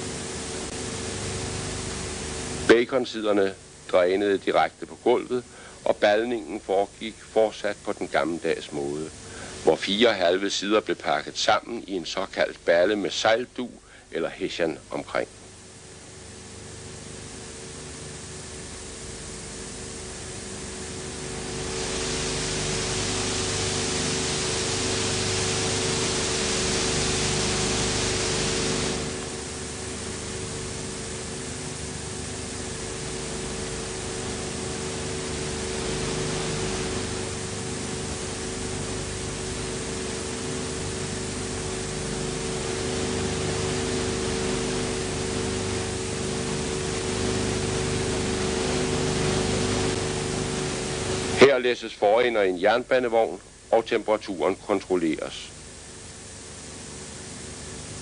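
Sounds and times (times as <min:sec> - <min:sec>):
electrical hum: 0:00.0 - 0:58.0
film hiss: 0:00.0 - 0:58.0.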